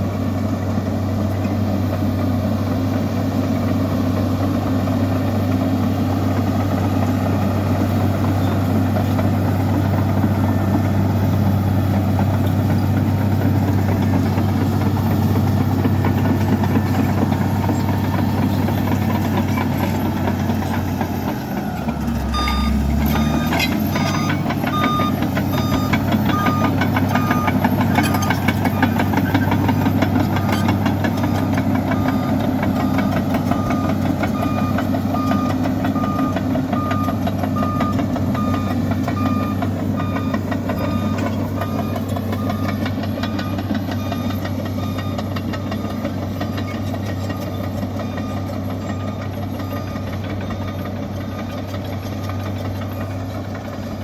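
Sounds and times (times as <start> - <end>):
bulldozer diesel engine running: 0.0 - 54.0
reversing alarm beeping: 7.3 - 53.1.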